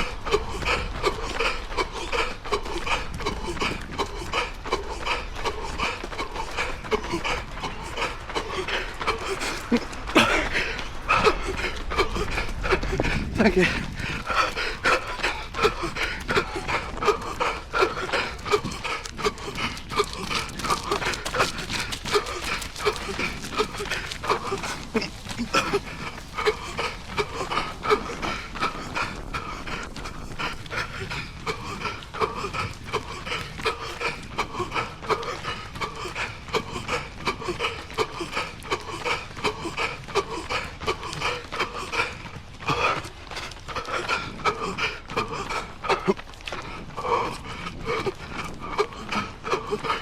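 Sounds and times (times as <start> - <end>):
heavy wheezy panting: 0.0 - 50.0.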